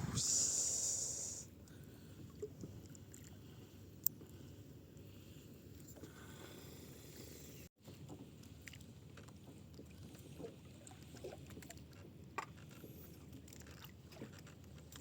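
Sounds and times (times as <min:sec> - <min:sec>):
faint water and wind noise: 0:00.0 - 0:15.0.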